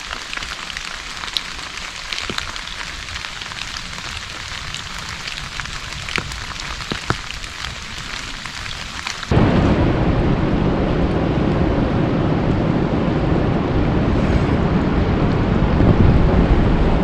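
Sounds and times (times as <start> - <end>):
rain pattering: 0.0 - 14.0
heavy rain with deep rumble: 0.0 - 17.0.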